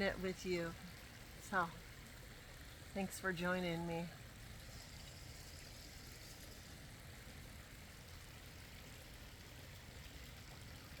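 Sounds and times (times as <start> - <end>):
flowing water: 0.0 - 11.0.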